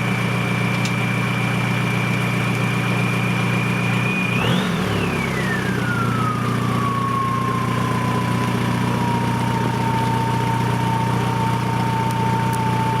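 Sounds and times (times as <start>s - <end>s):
diesel engine idling: 0.0s - 13.0s
turbo whine: 0.0s - 13.0s.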